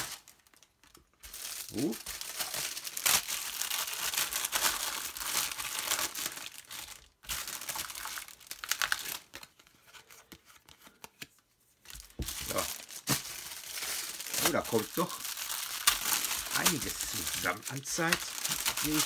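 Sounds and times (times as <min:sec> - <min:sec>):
plastic wrapping crinkling and tearing: 0:00.0 - 0:09.7, 0:11.9 - 0:19.0.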